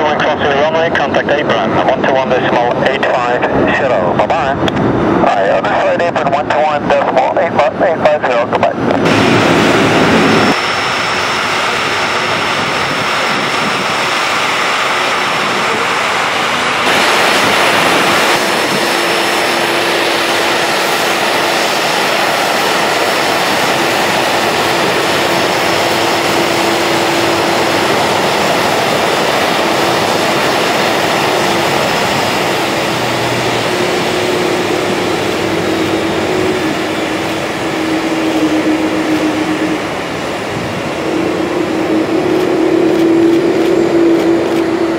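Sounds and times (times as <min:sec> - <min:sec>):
jet engines running: 0:00.0 - 0:44.9.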